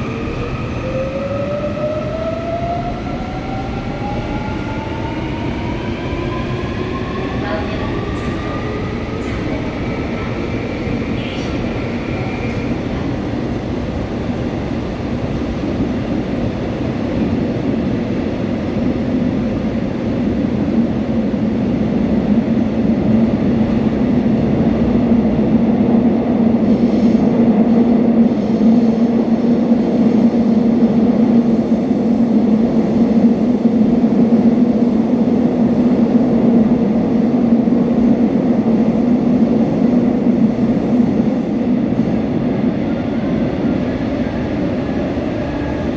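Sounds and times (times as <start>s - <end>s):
subway train rumbling: 0.0s - 45.9s.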